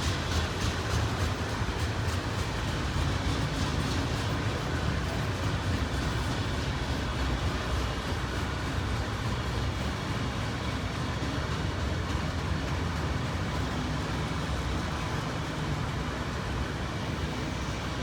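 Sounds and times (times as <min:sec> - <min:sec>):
steel wheels rumbling on rail: 0:00.0 - 0:18.0.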